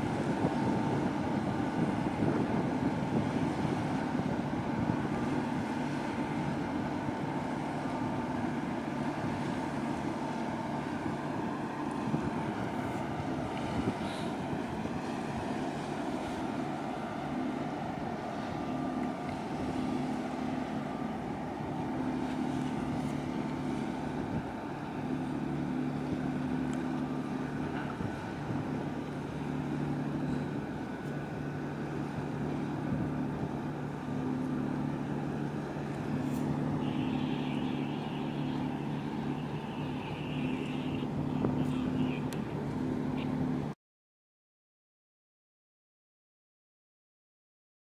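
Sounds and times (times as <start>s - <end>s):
ship engine drone: 0.0s - 43.8s
wind and water noise: 0.0s - 43.8s.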